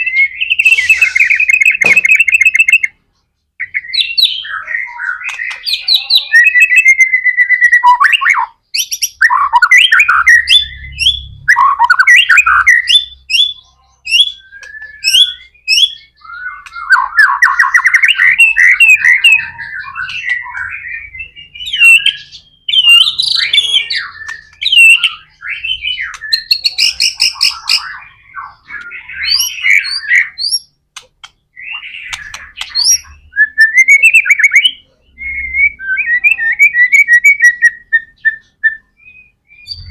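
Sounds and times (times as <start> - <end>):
bird singing whistled phrases: 0.0 - 3.0, 3.6 - 30.7, 31.6 - 39.9.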